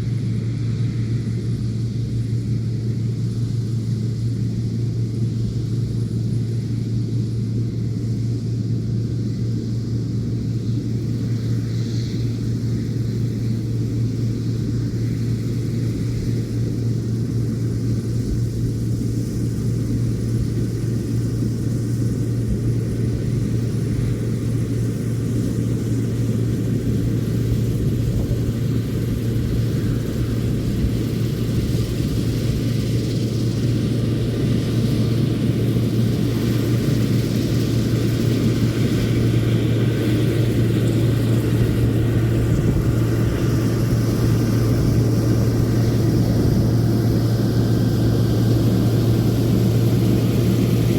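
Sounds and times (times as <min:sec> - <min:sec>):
combine harvester hum: 0:00.0 - 0:50.9.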